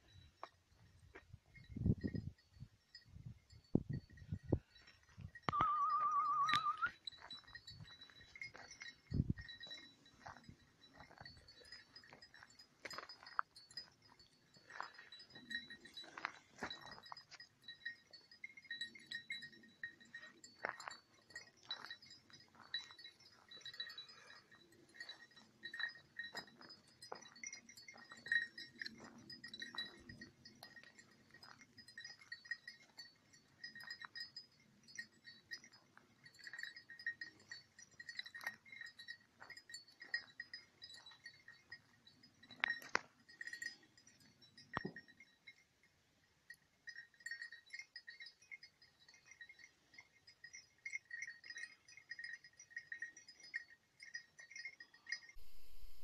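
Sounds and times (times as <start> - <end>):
small bell jingling: 0.0 - 56.0.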